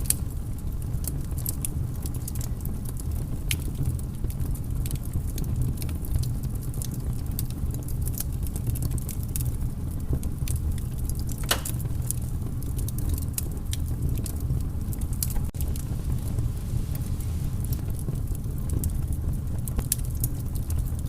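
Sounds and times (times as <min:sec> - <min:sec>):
fire pops: 0:00.0 - 0:21.0
low fire rumble: 0:00.0 - 0:21.0
wood fire crackling: 0:00.0 - 0:21.0.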